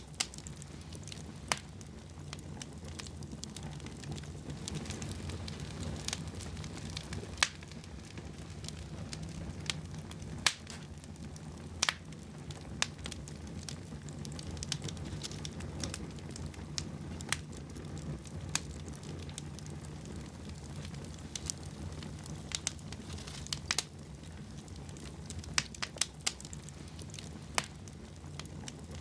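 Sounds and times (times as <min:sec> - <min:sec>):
fire crackling: 0:00.0 - 0:29.0
fire pops: 0:00.0 - 0:29.0.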